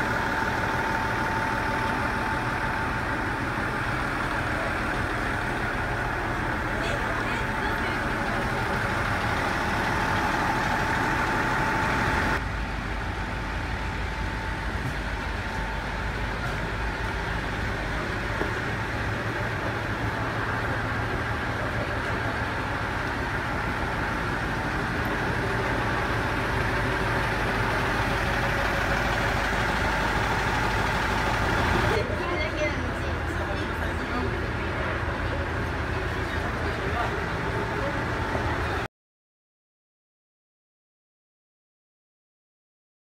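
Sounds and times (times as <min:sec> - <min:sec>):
diesel railcar engine running: 0:00.0 - 0:38.9.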